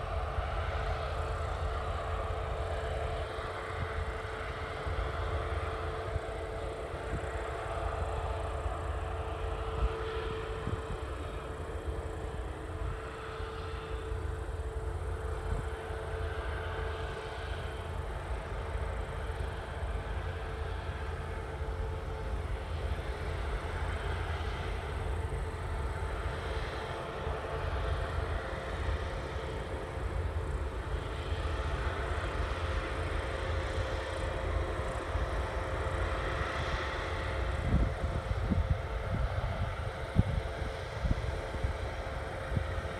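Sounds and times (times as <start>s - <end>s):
harvest machinery whine and rumble: 0.0s - 42.9s.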